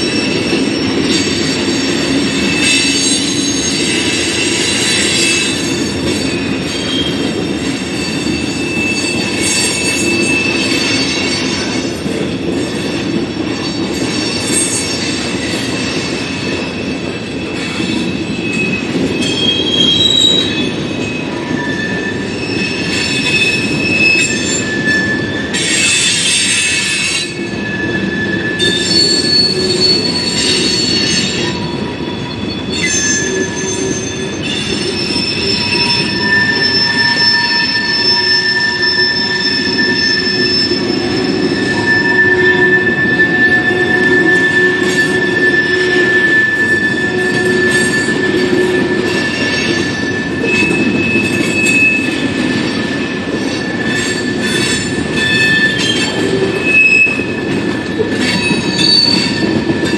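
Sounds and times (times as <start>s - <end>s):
high-pitched wheel squeals: 0.0s - 11.9s, 16.0s - 59.9s
steel wheels rolling on rail: 0.0s - 59.9s.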